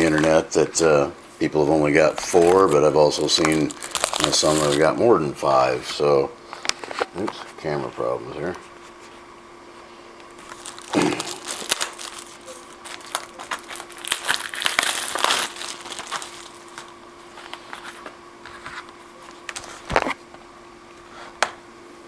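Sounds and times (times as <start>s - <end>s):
crinkling rustling handling noise: 0.0s - 20.2s
faint electrical hum: 0.0s - 22.0s.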